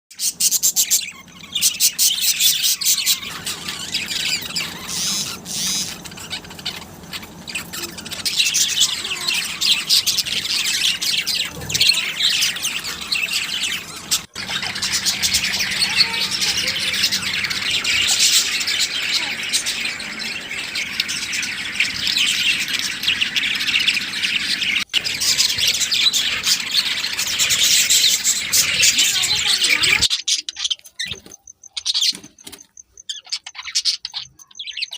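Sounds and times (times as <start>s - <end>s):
flock of small birds chattering: 0.1s - 34.9s.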